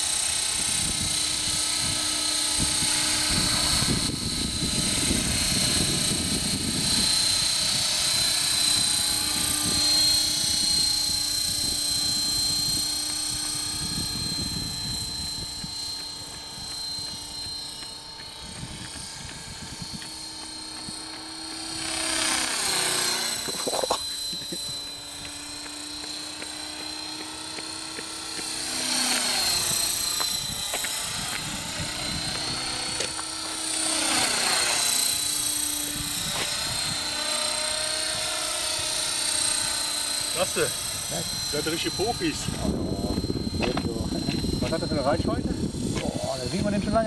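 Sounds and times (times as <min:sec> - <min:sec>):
rc helicopter motor whine: 0:00.0 - 0:47.0.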